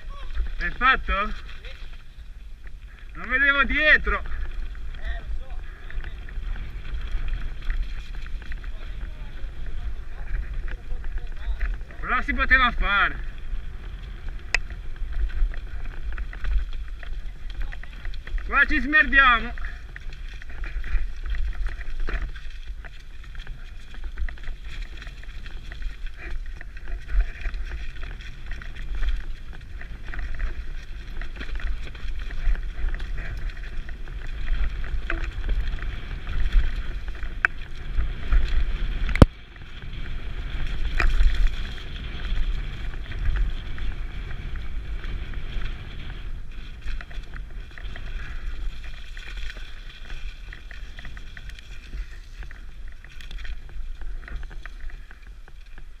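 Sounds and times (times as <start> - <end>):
bike rattling over bumps: 0.0 - 56.0
wind rumble on microphone: 0.0 - 56.0.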